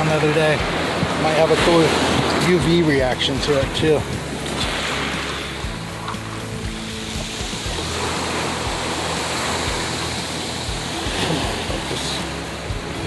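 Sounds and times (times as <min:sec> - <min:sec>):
waves washing over pebble beach: 0:00.0 - 0:13.0.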